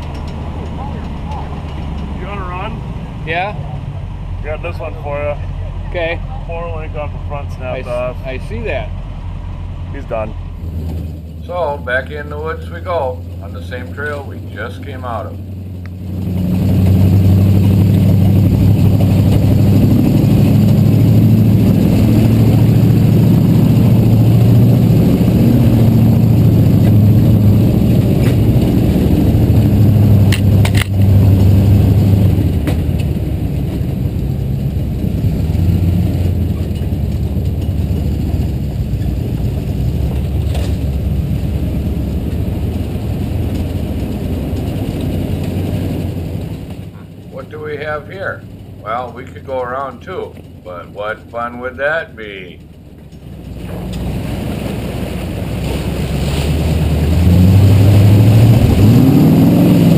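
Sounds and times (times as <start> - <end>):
truck knocking over bumps: 0.0 - 4.5, 10.3 - 59.9
truck engine running: 0.0 - 59.9.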